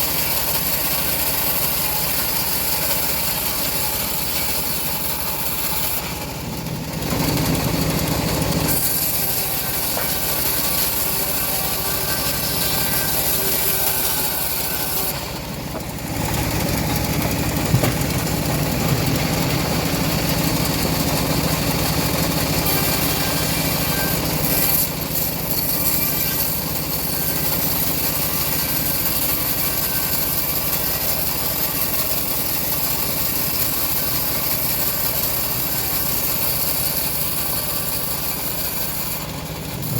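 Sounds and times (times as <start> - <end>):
bandsaw sawing through log: 0.0 - 39.9.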